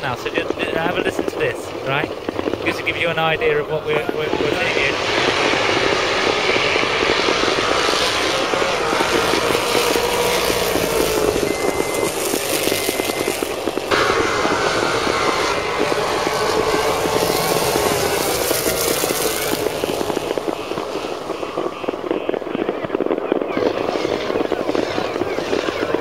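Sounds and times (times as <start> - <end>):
drag racing car engines: 0.0 - 26.0.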